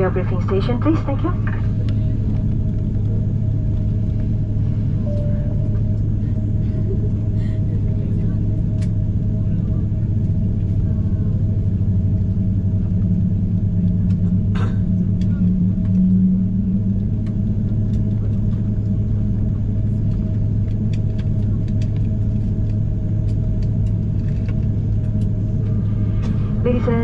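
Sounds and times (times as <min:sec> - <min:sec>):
aircraft cabin drone: 0:00.0 - 0:27.0
faint steady whine: 0:00.0 - 0:27.0.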